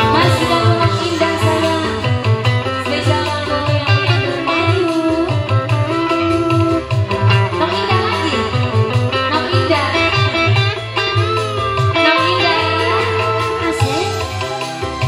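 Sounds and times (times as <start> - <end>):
electric guitar: 0.0 - 15.0
live band music: 0.0 - 15.0.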